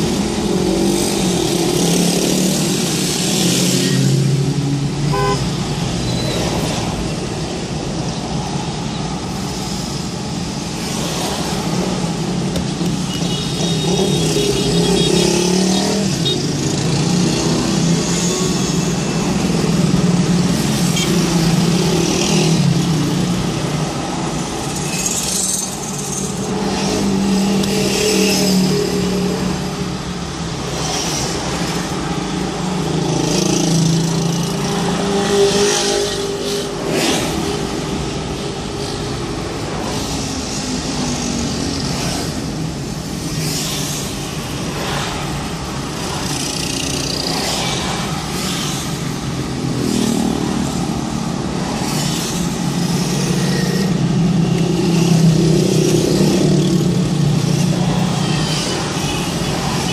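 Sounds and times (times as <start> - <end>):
car and motorcycle engines: 0.0 - 59.9
traffic hum and hiss: 0.0 - 59.9.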